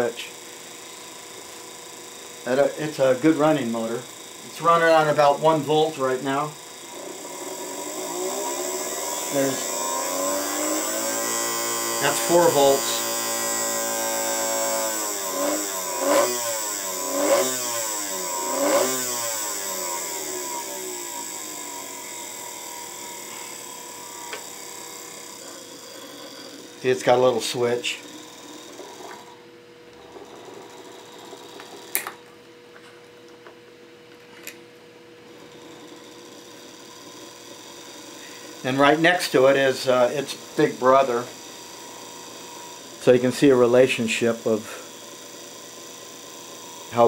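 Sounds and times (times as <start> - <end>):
toy electric motor whining: 0.0 - 32.2, 35.3 - 47.0.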